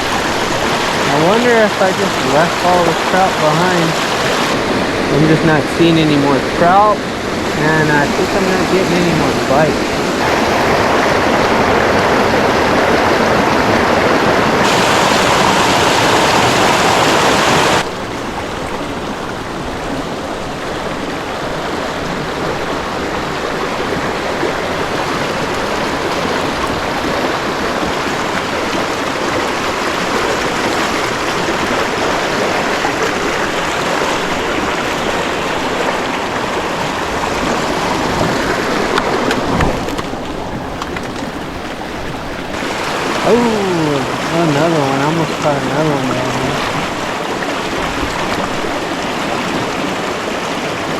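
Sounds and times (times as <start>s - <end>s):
creek water rushing: 0.0s - 50.9s.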